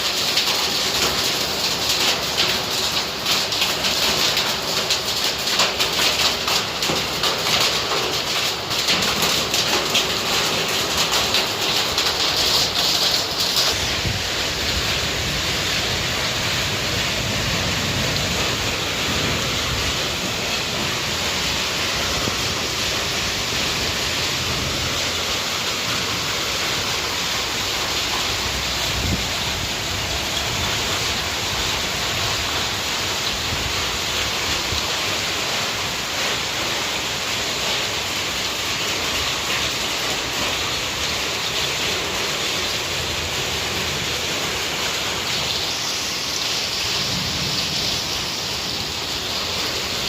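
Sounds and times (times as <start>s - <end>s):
hail hitting: 0.0s - 50.0s
heavy rain hiss: 0.0s - 50.0s.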